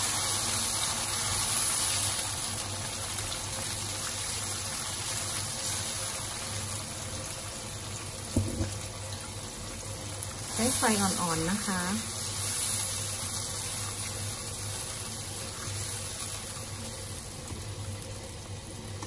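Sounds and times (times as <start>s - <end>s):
sauce sizzling in a hot wok: 0.0s - 19.0s.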